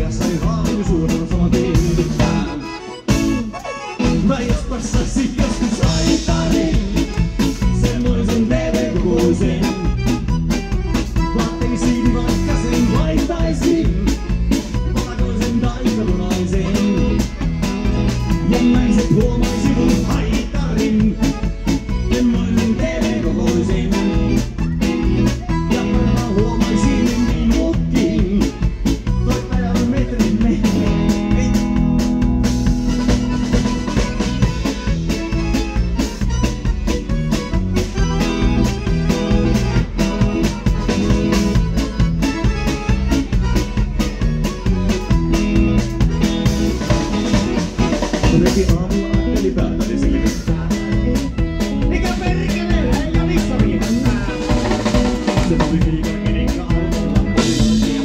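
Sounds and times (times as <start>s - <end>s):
bass guitar: 0.0s - 58.0s
button accordion: 0.0s - 58.0s
drum kit beat: 0.0s - 58.0s
electric guitar: 0.0s - 58.0s.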